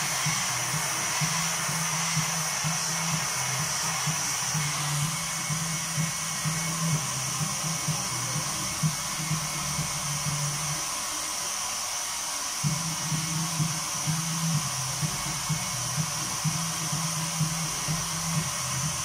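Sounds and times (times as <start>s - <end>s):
hot-air blower hissing: 0.0s - 19.0s.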